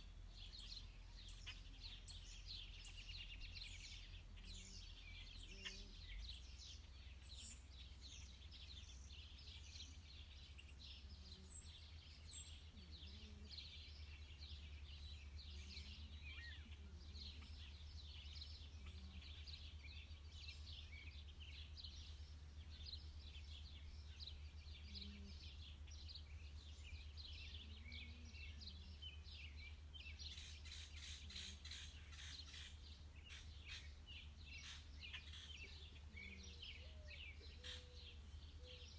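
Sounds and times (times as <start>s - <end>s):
birds chirping: 0.0s - 38.9s
low steady rumble: 0.0s - 38.9s.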